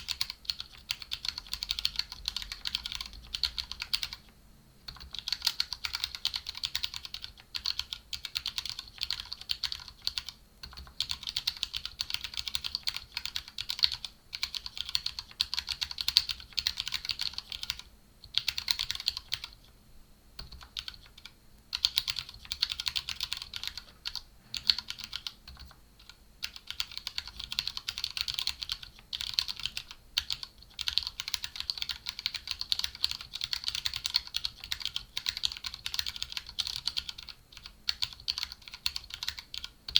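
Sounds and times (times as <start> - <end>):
fast mechanical keyboard typing: 0.0 - 4.3, 4.9 - 19.7, 20.4 - 39.9.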